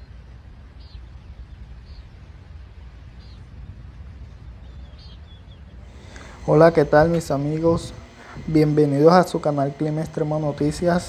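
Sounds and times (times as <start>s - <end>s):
wind rumble on microphone: 0.0s - 9.2s
bird chirping: 0.0s - 11.0s.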